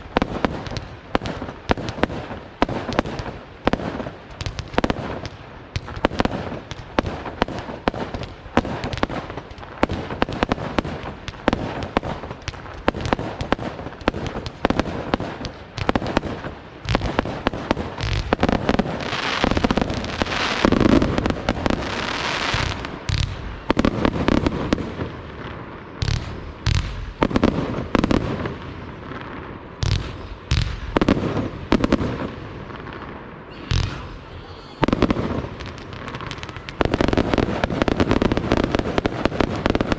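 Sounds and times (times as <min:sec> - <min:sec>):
fireworks bangs and crackles: 0:00.0 - 0:39.9
low firework booms: 0:00.0 - 0:39.9.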